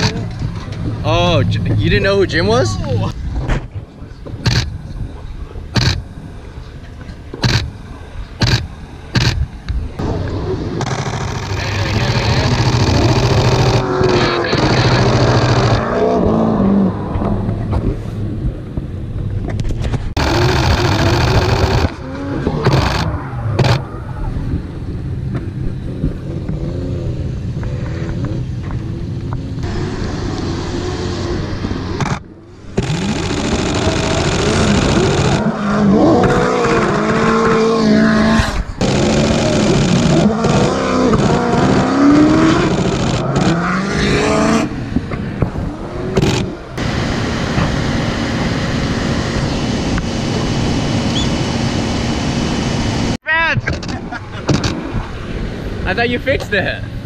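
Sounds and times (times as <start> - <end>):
car engines revving hard: 0.0 - 3.5, 10.0 - 18.5, 20.1 - 55.9.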